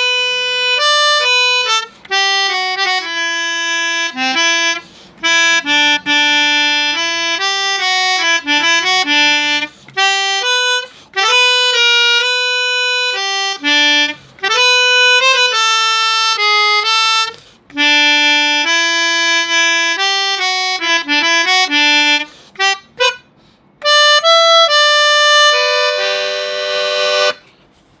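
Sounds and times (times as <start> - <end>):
melodica playing a melody: 0.0 - 27.6.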